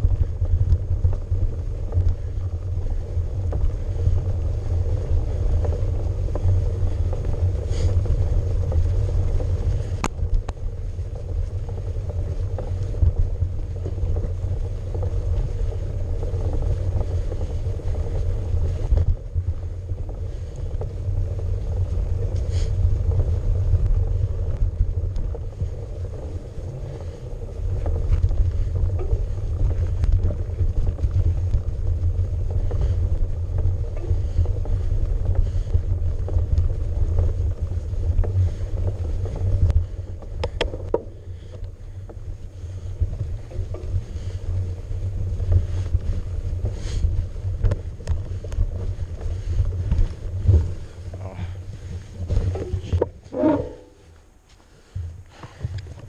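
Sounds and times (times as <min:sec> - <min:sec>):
tyre and wind rumble: 0:00.0 - 0:56.0.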